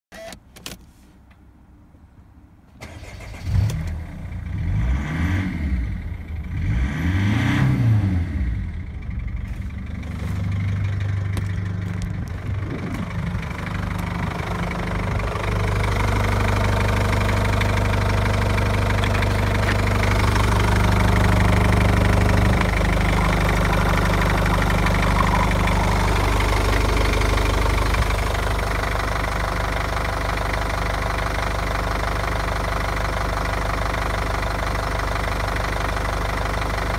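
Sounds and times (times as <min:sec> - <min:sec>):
diesel engine starting and idling: 0:00.1 - 0:00.6, 0:02.4 - 0:36.9.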